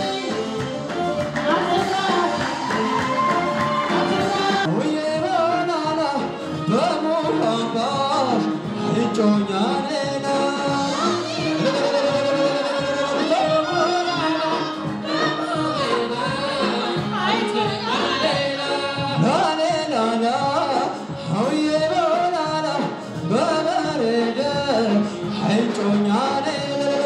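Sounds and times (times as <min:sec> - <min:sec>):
band accompaniment: 0:00.0 - 0:27.0
person singing: 0:00.0 - 0:27.0.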